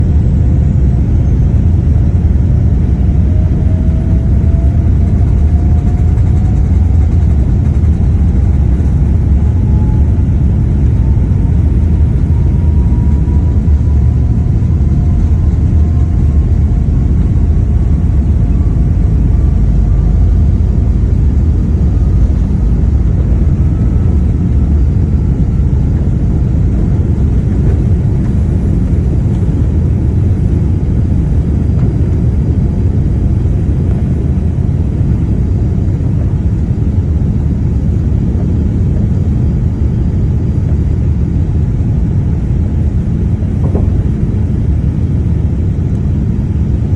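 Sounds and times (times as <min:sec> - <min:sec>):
jet engines at takeoff thrust: 0:00.0 - 0:46.9.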